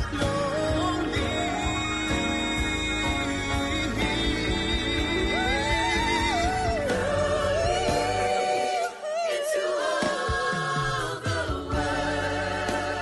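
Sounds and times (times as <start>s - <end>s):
backing music: 0.0s - 13.0s
person singing gospel: 0.0s - 13.0s.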